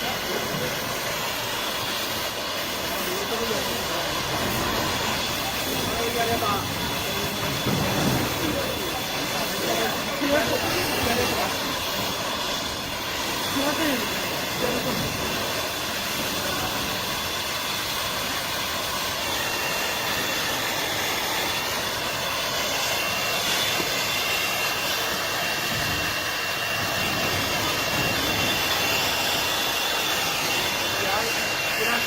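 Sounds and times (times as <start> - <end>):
thin high whine: 0.0 - 32.0
torch flame hissing: 0.0 - 32.0.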